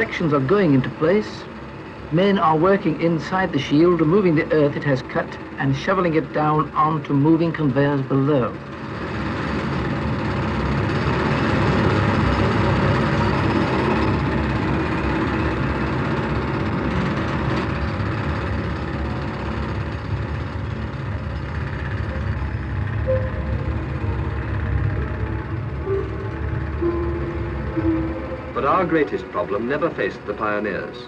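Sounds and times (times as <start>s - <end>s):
conveyors running: 0.0s - 31.0s
tunnelling machinery rumble and clatter: 0.0s - 31.0s.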